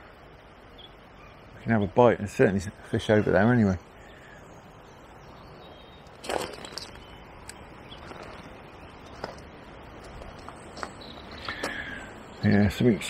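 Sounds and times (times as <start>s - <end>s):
faint bird chirps: 0.0s - 2.0s, 2.6s - 9.4s, 10.4s - 13.0s
low outdoor hiss: 0.0s - 13.0s.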